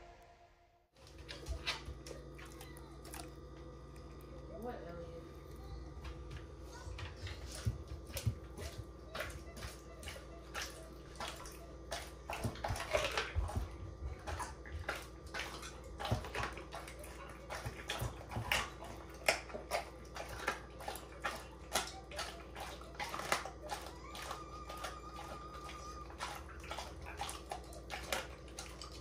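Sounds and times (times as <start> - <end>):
dog chewing raw meat: 5.5 - 29.0.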